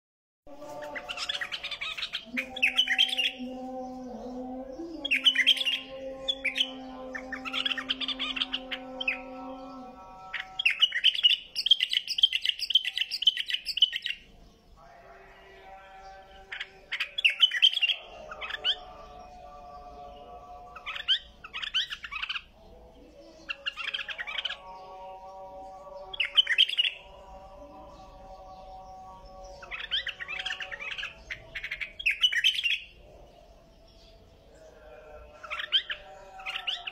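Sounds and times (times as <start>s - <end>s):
bird chirping: 0.5s - 36.9s.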